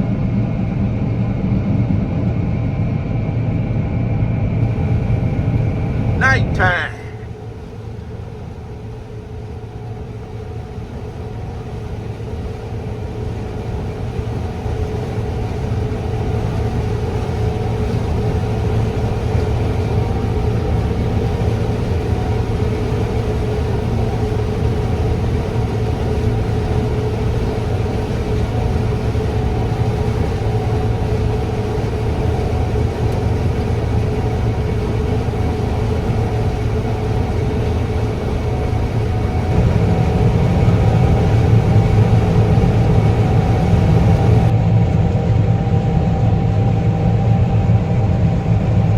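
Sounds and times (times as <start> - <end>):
combine harvester engine drone: 0.0 - 48.9
constant hum: 3.4 - 48.9.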